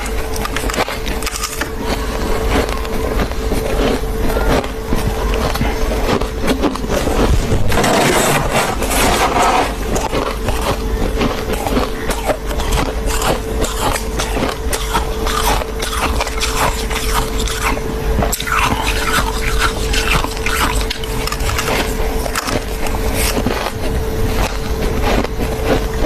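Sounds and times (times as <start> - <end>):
frost crunching when chewed: 0.0 - 26.0
steady hum: 0.0 - 26.0.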